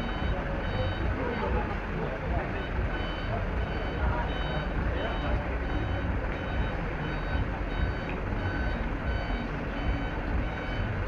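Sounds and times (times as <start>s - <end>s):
truck reversing alarm beeping: 0.0s - 11.0s.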